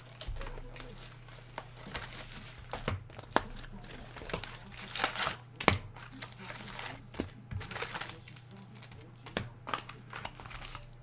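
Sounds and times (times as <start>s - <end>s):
low electrical hum: 0.0s - 11.0s
wrappers torn and crinkled: 0.0s - 11.0s.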